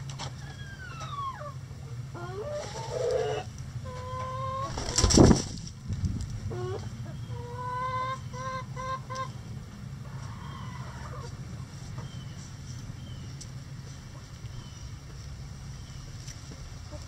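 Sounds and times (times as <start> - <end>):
chickens calling: 0.0 - 17.0
steady low hum: 0.0 - 17.0.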